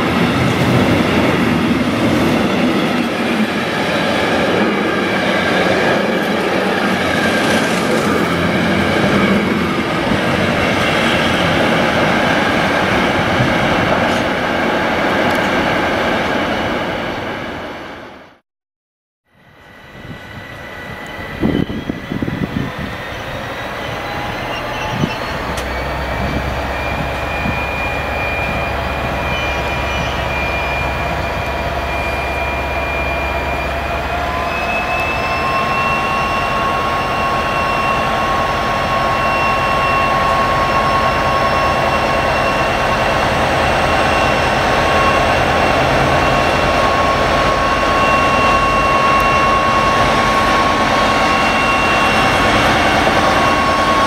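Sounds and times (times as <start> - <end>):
diesel locomotive engine whine: 0.0 - 18.4, 19.3 - 54.0.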